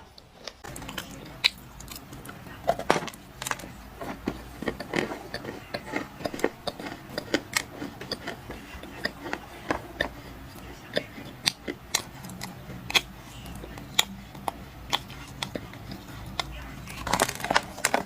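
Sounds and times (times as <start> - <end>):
clay crunching while chewed: 0.1 - 18.0.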